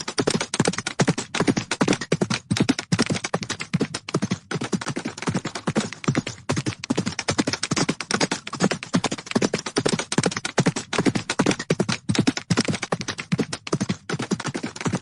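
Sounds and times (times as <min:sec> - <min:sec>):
horses galloping: 0:00.0 - 0:15.0.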